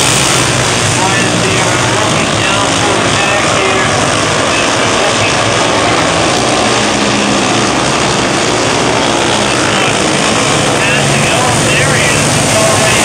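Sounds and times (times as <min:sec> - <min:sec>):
racing car engines droning: 0:00.0 - 0:13.0.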